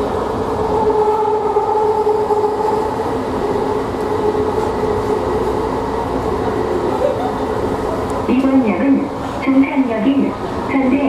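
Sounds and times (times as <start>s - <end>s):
railcar drive whine: 0.0s - 11.0s
train rolling noise: 0.0s - 11.0s.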